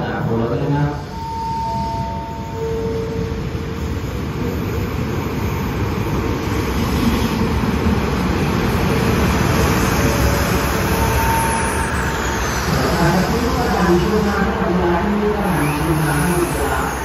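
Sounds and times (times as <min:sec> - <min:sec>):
diesel train rumbling past: 0:00.0 - 0:17.0.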